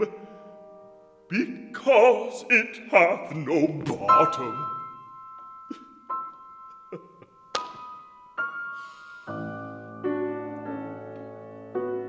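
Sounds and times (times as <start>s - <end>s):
grand piano playing: 0.0s - 12.0s.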